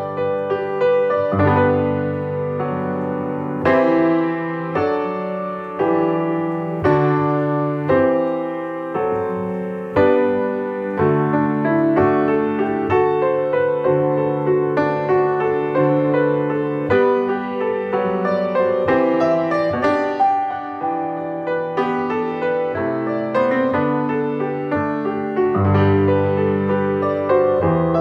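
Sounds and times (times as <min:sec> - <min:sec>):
slow solo piano chords: 0:00.0 - 0:28.0.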